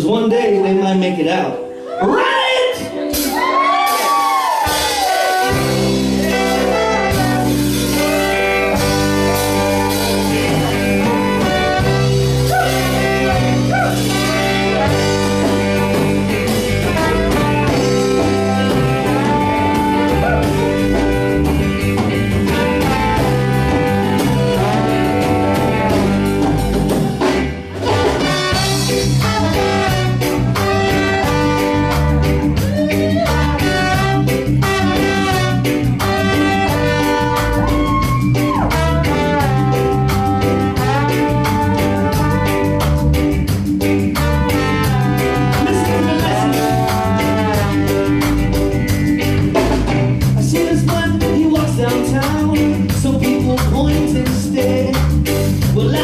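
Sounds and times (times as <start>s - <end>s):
bass guitar: 0.0s - 56.0s
saxophone and trumpet melody: 0.2s - 49.9s
drum kit: 2.9s - 56.0s.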